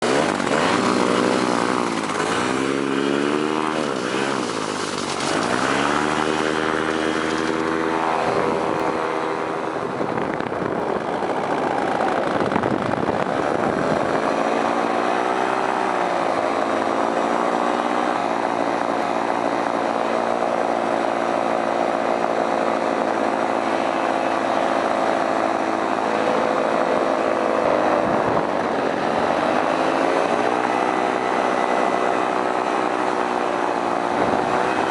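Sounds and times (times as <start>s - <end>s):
paramotor engine and propeller: 0.0s - 34.9s.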